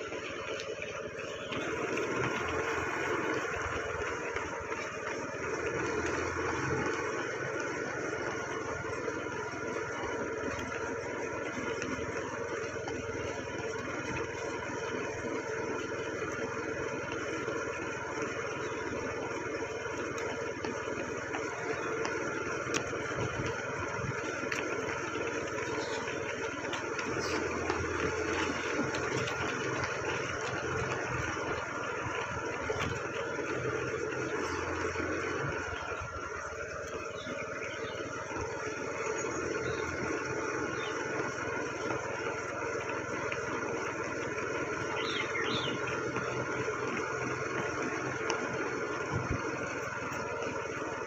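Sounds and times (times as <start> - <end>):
vehicle engine droning: 0.0 - 51.0.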